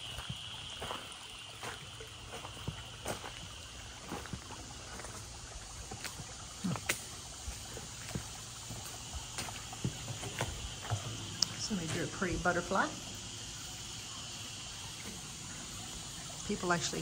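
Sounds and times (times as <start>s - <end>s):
water running: 0.0s - 17.0s.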